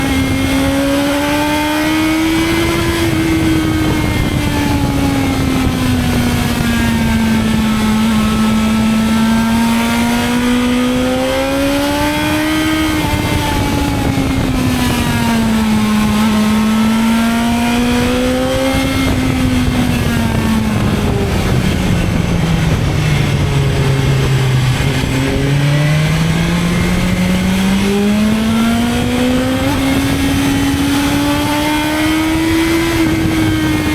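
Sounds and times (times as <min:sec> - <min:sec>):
motorcycle engine running: 0:00.0 - 0:33.9
wind and road noise: 0:00.0 - 0:33.9.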